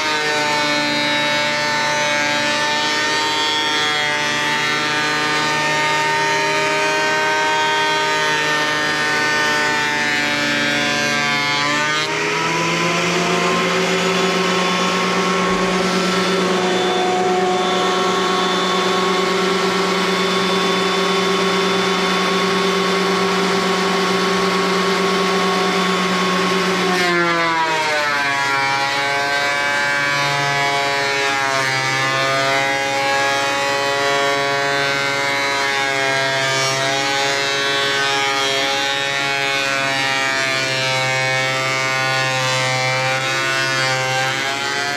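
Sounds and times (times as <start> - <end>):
thickness planer motor whining: 0.0 - 44.9.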